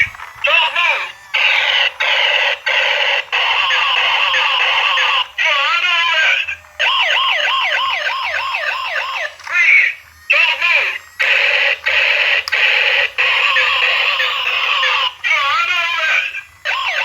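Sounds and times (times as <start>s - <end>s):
electronic police siren: 0.0s - 17.0s.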